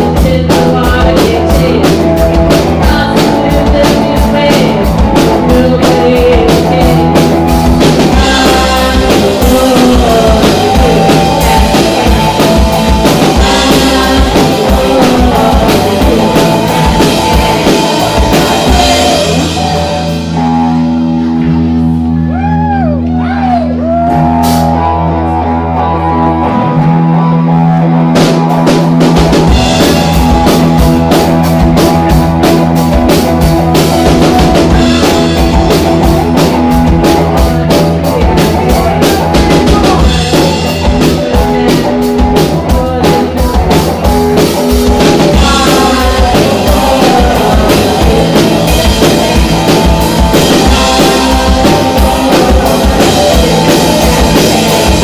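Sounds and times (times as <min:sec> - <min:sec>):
drum kit: 0:00.0 - 0:55.0
electric guitar and bass chord: 0:04.6 - 0:55.0.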